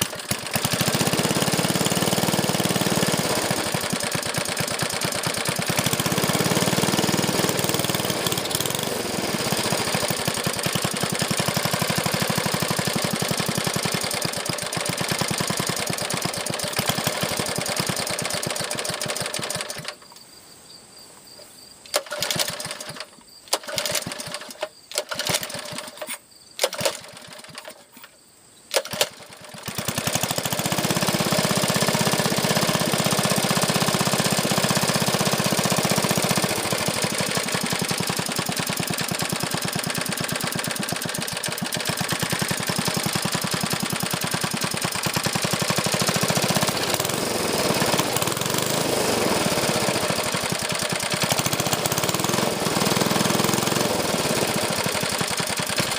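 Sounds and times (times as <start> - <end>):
small engine running: 0.0 - 20.0, 22.0 - 27.8, 28.7 - 55.9.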